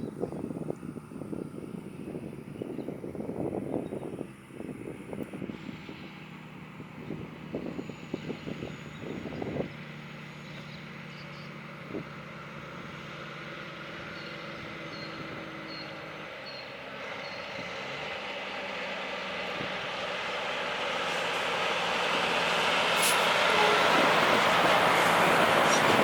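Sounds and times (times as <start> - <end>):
truck diesel engine drone: 0.0 - 26.0.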